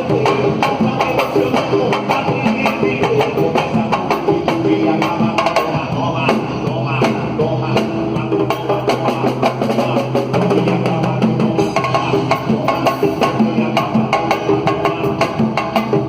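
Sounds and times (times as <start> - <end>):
drums and percussion beat: 0.0 - 16.0.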